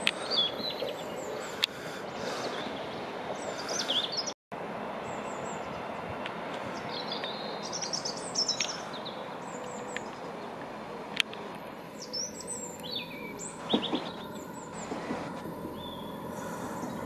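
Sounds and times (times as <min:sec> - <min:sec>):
small birds chirping: 0:00.0 - 0:04.4, 0:05.0 - 0:17.0
trains rumbling: 0:00.0 - 0:17.0.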